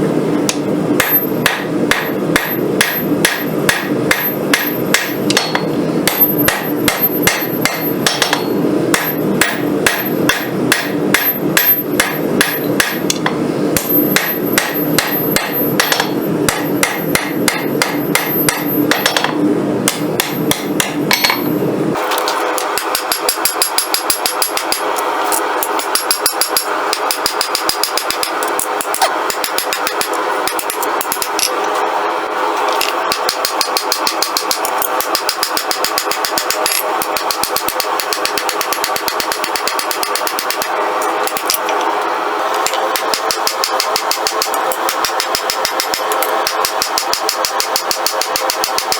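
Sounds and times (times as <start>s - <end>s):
hammer striking hot steel on anvil: 0.5s - 21.6s, 22.6s - 31.6s, 32.8s - 41.6s, 42.6s - 48.9s.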